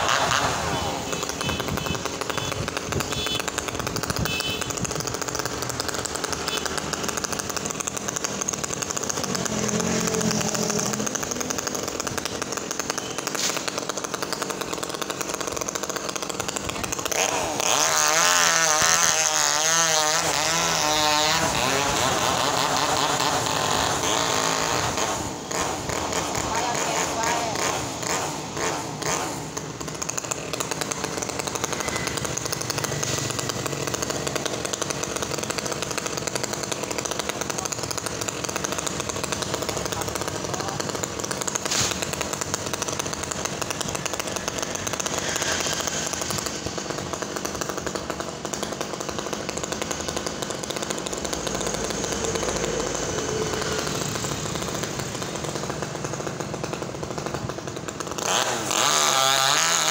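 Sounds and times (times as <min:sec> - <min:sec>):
chainsaw cutting tree limbs: 0:00.0 - 0:59.9.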